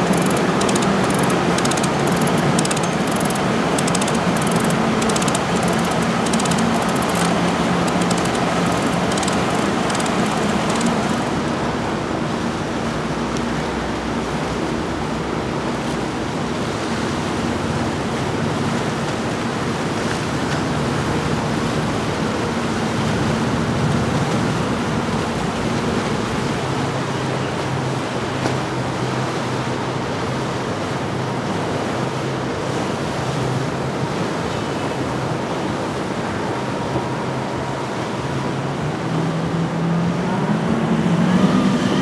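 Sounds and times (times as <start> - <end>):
boat wake rushing: 0.0 - 42.0
outboard engines droning: 0.0 - 42.0.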